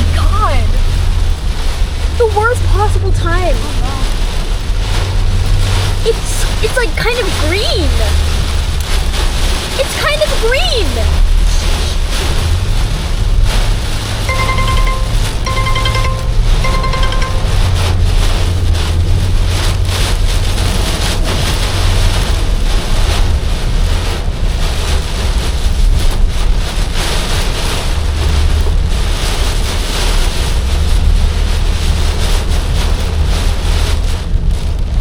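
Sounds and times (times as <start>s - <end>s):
low road rumble: 0.0s - 35.0s
wind and rain rushing: 0.0s - 35.0s.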